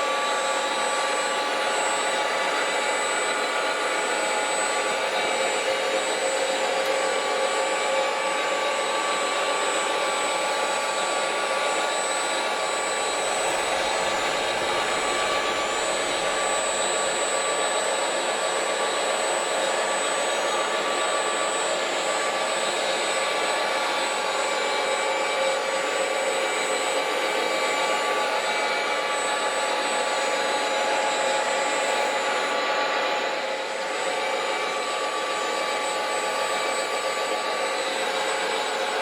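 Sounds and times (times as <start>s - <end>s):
electric motors whirring and whining: 0.0s - 39.0s.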